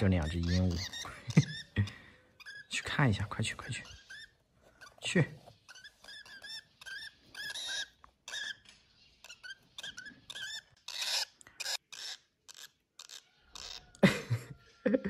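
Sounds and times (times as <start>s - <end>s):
bird chicks begging calls: 0.0s - 14.0s.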